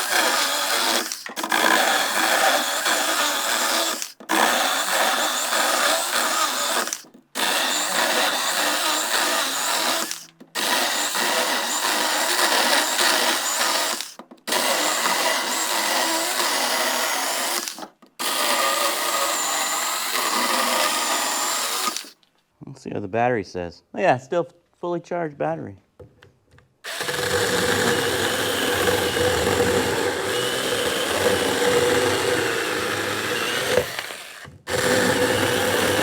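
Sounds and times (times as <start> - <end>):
electric chainsaw cutting wood: 0.0 - 22.2, 26.8 - 36.0.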